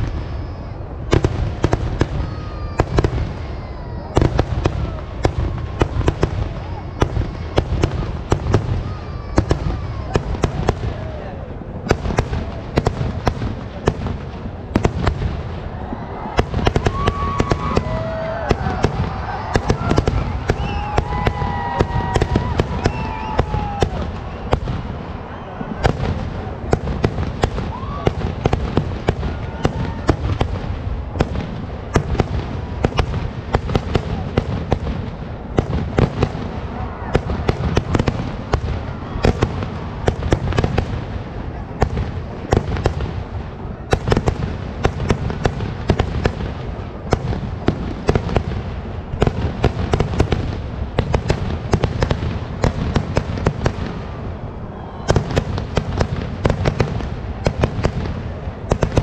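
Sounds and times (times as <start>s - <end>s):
heavy firework explosions: 0.0s - 59.0s
rapid firecracker bangs: 0.0s - 59.0s.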